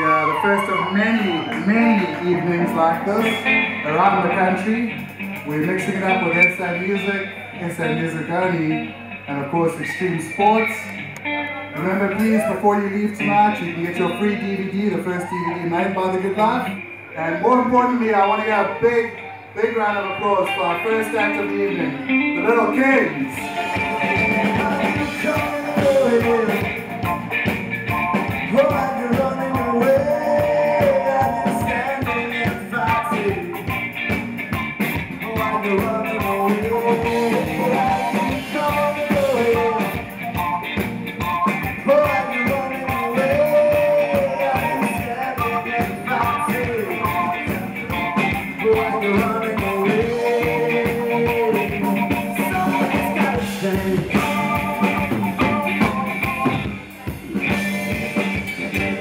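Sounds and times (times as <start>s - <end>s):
man singing: 0.0s - 10.9s, 11.7s - 27.1s, 28.4s - 33.8s, 35.1s - 40.2s, 41.6s - 59.0s
live rock band playing: 0.0s - 59.0s.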